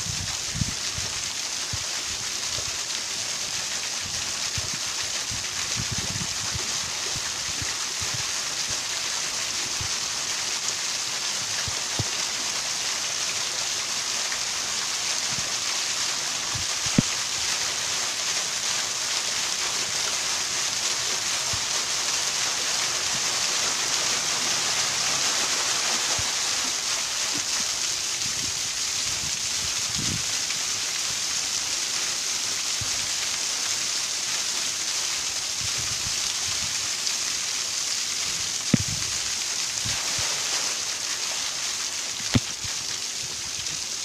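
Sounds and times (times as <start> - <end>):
waterfall splashing: 0.0 - 44.0.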